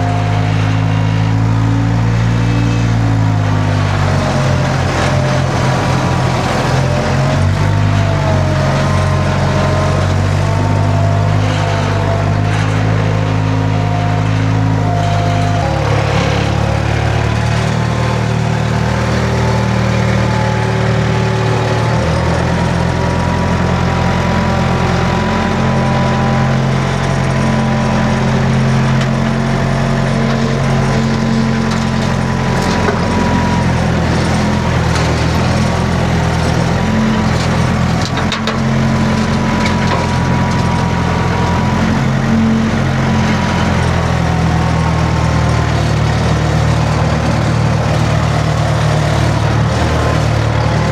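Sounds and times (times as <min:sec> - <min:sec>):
skid steer engine running: 0:00.0 - 0:50.9.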